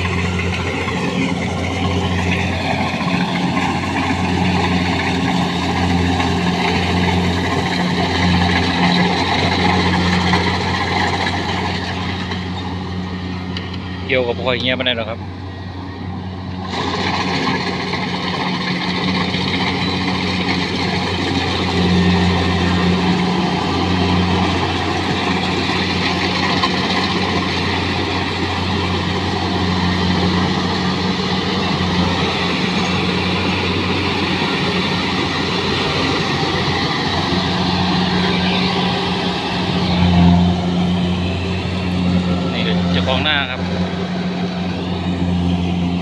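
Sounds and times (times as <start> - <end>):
cutting and threshing machinery: 0.0 - 46.0
diesel engine drone: 0.0 - 46.0.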